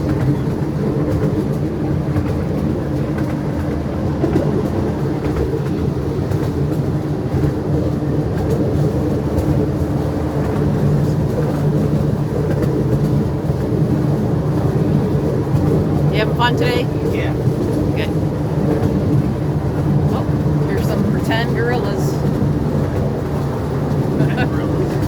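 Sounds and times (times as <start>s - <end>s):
miniature train rumbling: 0.0s - 25.0s
wheels clicking on rails: 0.0s - 25.0s.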